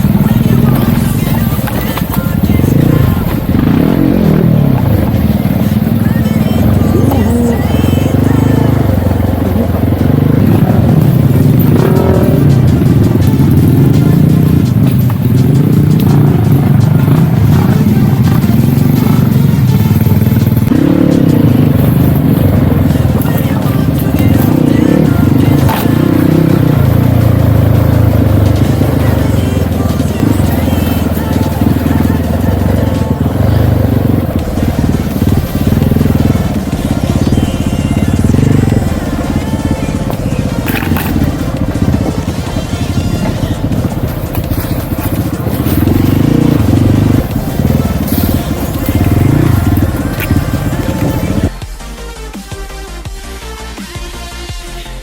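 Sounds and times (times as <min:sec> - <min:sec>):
dirt bike engine running: 0:00.0 - 0:51.8
music playing: 0:00.0 - 0:55.0.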